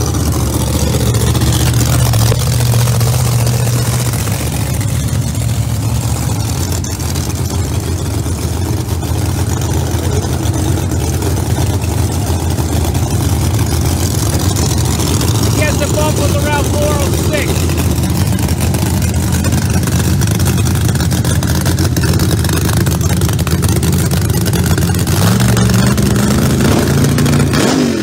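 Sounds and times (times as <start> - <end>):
race car engine idling: 0.0 - 27.6.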